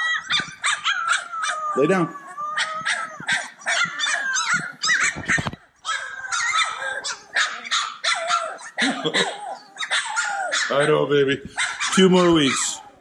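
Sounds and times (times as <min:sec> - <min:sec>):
puppies yipping and whining: 0:00.0 - 0:13.0.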